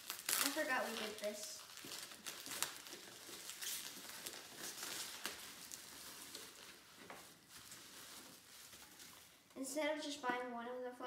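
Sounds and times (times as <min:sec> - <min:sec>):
packing peanuts rubbing: 0:00.0 - 0:09.3
plastic bag crinkling: 0:00.0 - 0:09.5.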